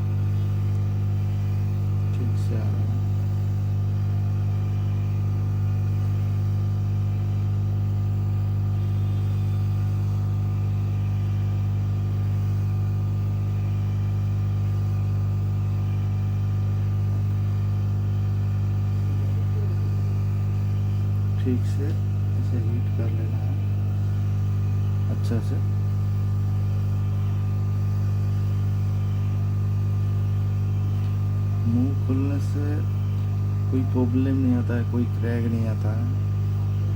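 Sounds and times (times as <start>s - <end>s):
heat gun motor hum: 0.0s - 36.9s.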